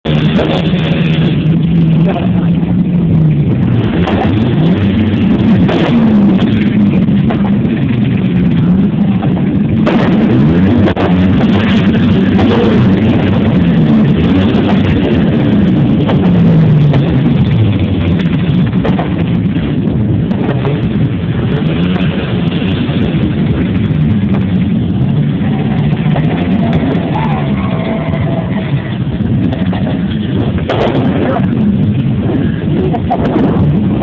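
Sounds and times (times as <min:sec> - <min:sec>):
loud distorted music: 0:00.0 - 0:34.0.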